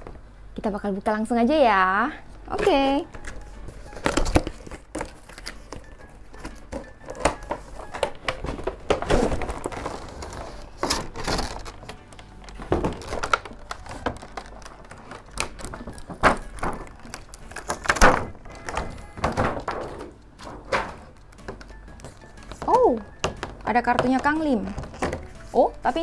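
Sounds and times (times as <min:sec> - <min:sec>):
cardboard and plastic rustling: 0:02.5 - 0:26.0.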